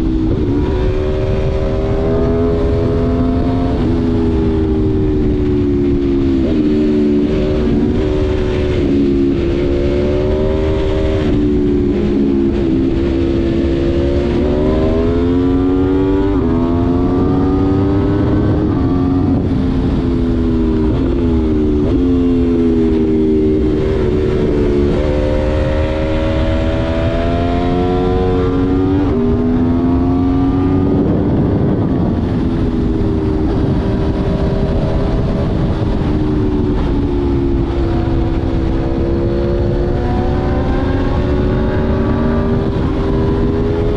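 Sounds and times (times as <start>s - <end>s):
motorcycle engine accelerating hard: 0.0s - 43.9s
wind rush on microphone: 0.0s - 43.9s.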